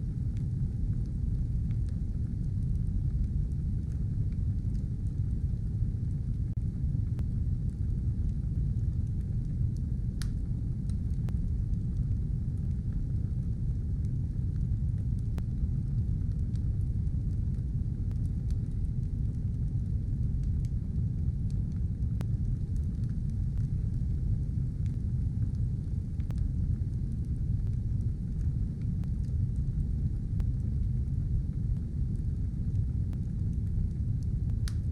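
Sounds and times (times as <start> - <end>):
fire roaring and crackling: 0.0 - 34.9.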